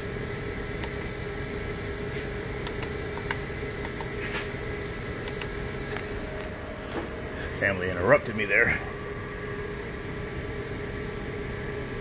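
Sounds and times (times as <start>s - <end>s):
heat pump machine drone: 0.0s - 12.0s.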